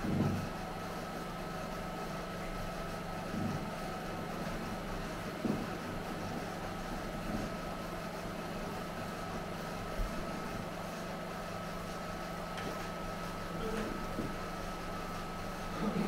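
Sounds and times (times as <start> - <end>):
film projector running: 0.0 - 16.0.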